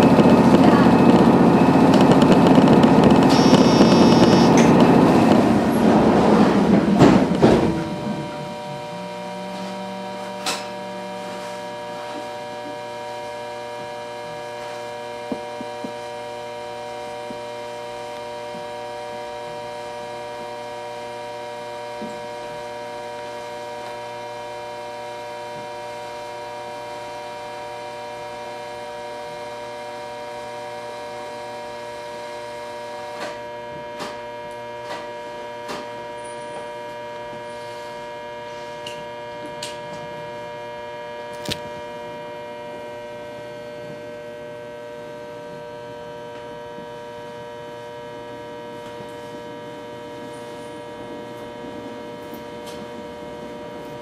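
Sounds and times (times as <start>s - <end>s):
train electrical hum: 0.0s - 54.0s.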